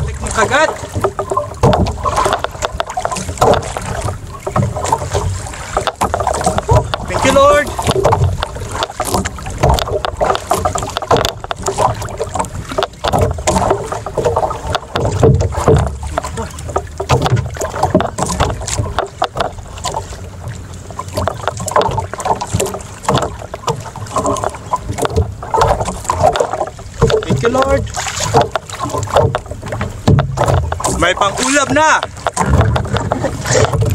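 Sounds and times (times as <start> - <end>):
boat and gear knocking: 0.0 - 33.9
water slapping against hull: 0.0 - 33.9.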